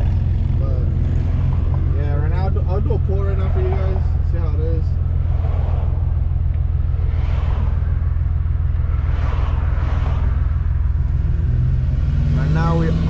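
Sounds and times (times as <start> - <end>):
car engine deep rumble: 0.0 - 13.0.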